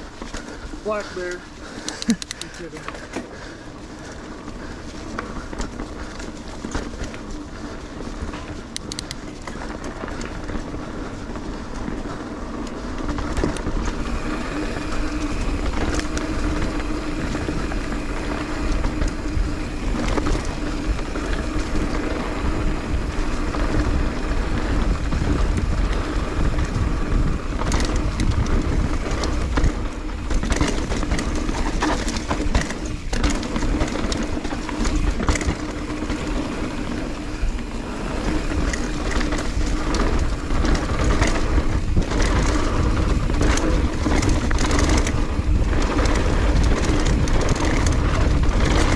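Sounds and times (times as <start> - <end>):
bike tyres running over dirt: 0.0 - 48.9
wind buffeting microphone: 0.0 - 48.9.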